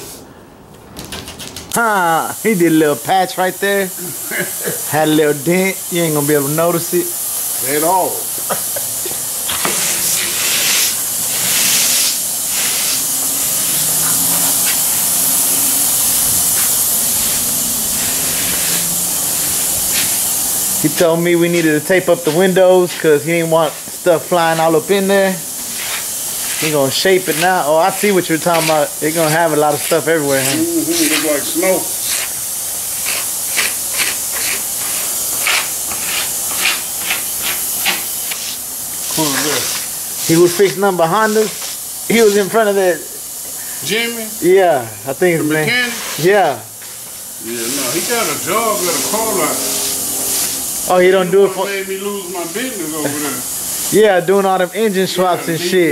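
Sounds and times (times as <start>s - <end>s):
steady high hiss: 0.0s - 0.7s, 1.4s - 55.9s
sanding pad rasping strokes: 7.7s - 42.7s, 45.7s - 55.9s.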